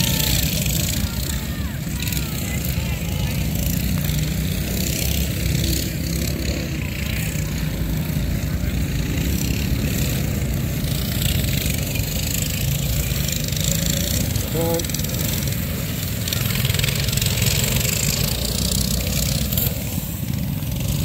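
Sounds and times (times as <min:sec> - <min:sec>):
small minibike engines humming: 0:00.0 - 0:21.0.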